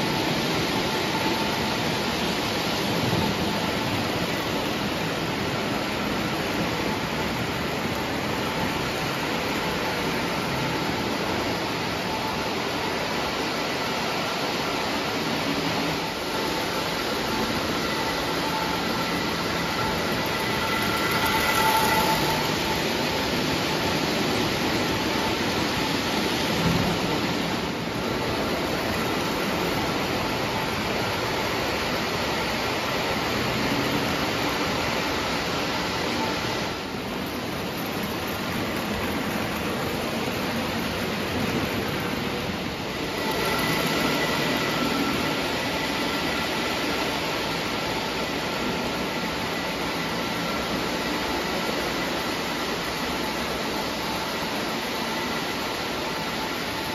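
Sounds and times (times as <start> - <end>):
faint high whine: 0.0 - 56.9
model train wheels rumbling: 0.0 - 56.9.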